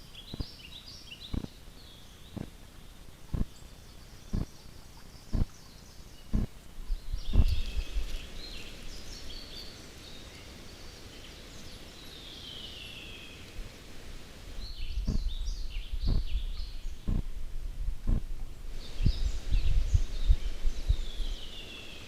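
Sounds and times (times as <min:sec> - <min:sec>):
birds chirping: 0:00.0 - 0:13.8, 0:14.5 - 0:17.4, 0:18.0 - 0:22.0.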